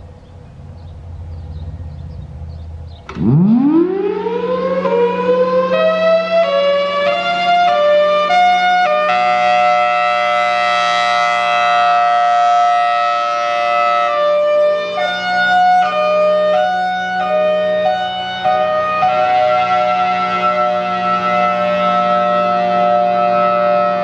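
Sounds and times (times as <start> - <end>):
hi-lo warning siren: 1.1 - 24.0.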